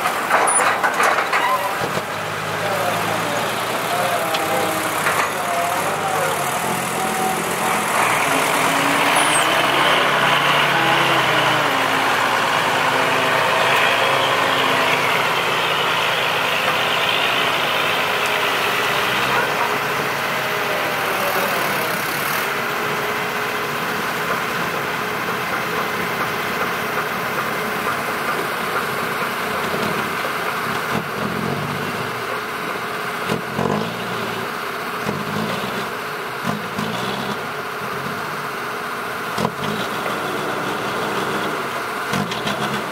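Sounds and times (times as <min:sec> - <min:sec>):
diesel dump truck engines: 0:00.0 - 0:42.9
truck straining in mud: 0:00.0 - 0:42.9.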